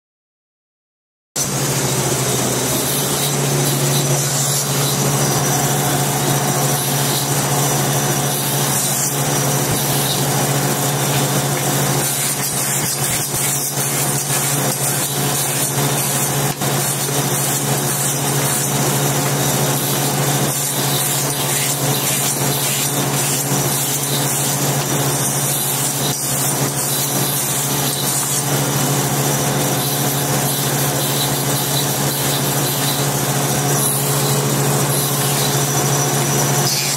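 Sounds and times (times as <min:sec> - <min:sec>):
saw blade grinding slate: 0:01.4 - 0:36.9
table saw motor hum: 0:01.4 - 0:36.9.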